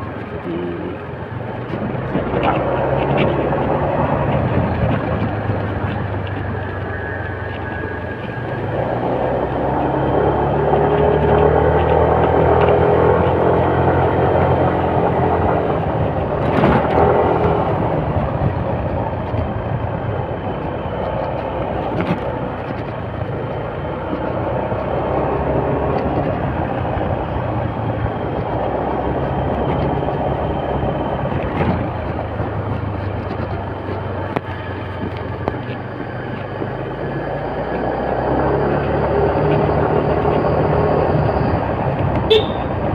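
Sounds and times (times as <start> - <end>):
motorcycle engine running: 0.0 - 42.9
wind and road rush: 0.0 - 42.9.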